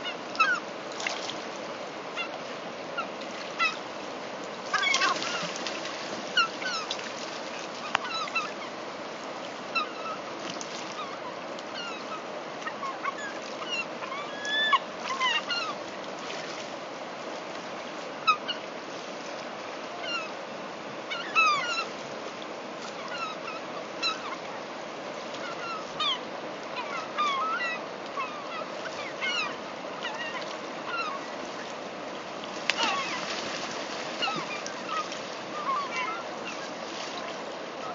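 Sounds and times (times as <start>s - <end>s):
gulls calling: 0.0s - 1.4s, 2.0s - 16.6s, 18.1s - 18.8s, 19.8s - 22.1s, 22.7s - 37.9s
birds splashing into water: 0.0s - 1.6s, 2.2s - 8.8s, 9.4s - 20.4s, 21.1s - 37.9s
river water rushing: 0.0s - 21.1s, 21.9s - 37.9s.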